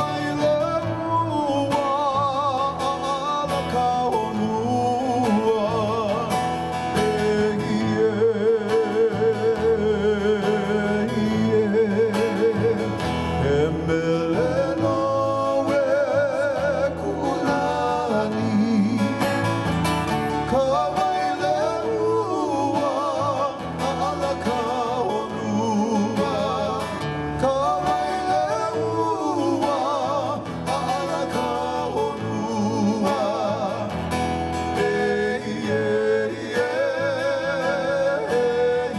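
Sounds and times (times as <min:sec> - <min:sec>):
person singing with vibrato: 0:00.0 - 0:38.9
plucked guitar: 0:00.0 - 0:38.9.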